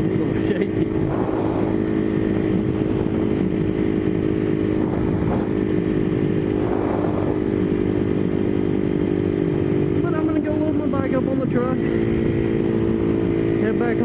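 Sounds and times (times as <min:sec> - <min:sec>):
dirt bike engine droning: 0:00.0 - 0:14.0.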